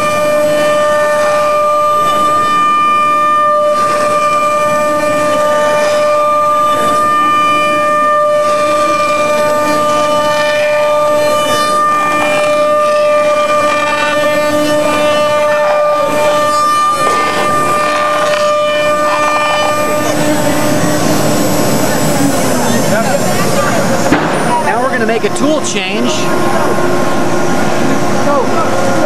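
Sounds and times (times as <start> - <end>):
cutter milling plastic: 0.0 - 29.0
router spindle whine: 0.0 - 29.0.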